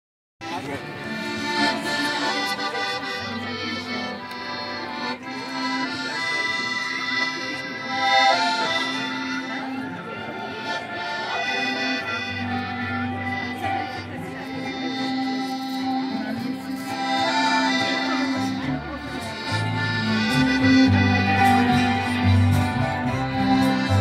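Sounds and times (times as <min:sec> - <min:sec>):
accordion: 0:00.4 - 0:24.0
fiddle: 0:00.4 - 0:24.0.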